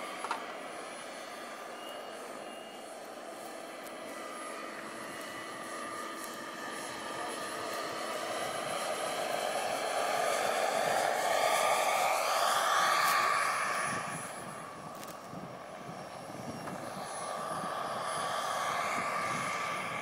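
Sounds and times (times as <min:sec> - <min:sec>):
model helicopter rotor whine: 0:00.0 - 0:20.0.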